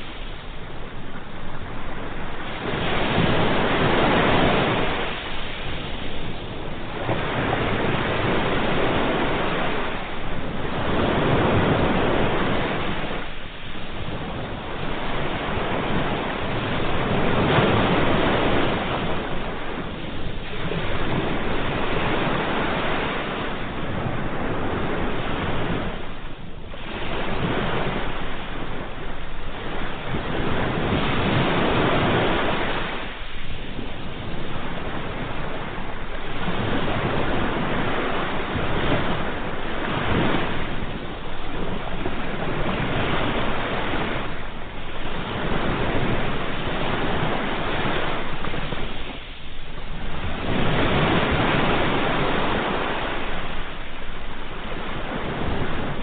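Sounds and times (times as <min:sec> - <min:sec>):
sea waves surf: 0:00.0 - 0:56.0.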